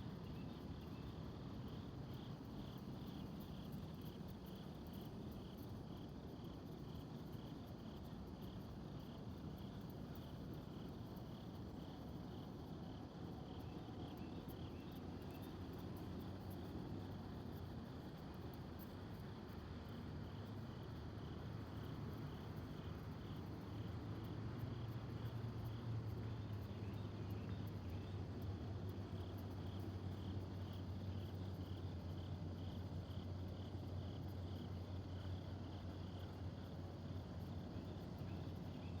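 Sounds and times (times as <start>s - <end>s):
insect chirping: 0.1s - 28.2s, 28.9s - 39.0s.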